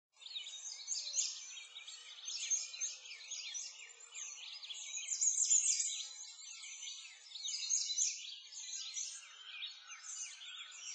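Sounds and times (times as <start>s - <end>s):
songbirds chirping: 0.2s - 10.9s.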